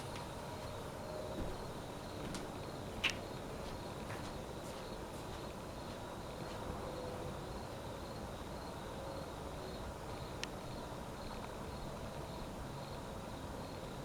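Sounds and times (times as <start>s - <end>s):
cricket chirping: 0.0s - 6.4s, 7.0s - 14.0s.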